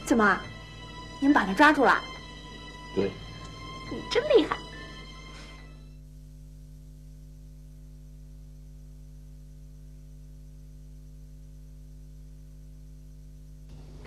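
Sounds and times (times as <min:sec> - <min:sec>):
electrical mains hum: 0:00.0 - 0:14.0
faint hiss: 0:02.2 - 0:14.0.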